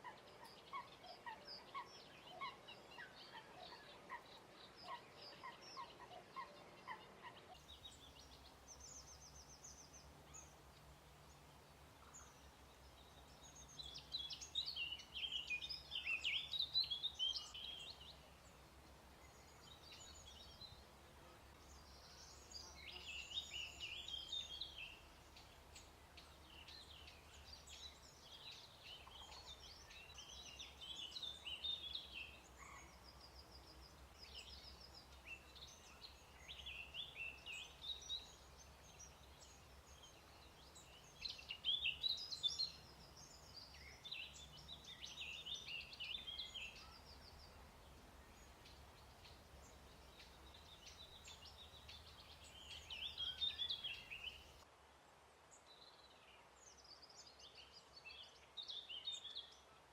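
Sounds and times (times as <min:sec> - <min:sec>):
songbirds singing: 0:00.0 - 0:54.7, 0:55.5 - 0:59.9.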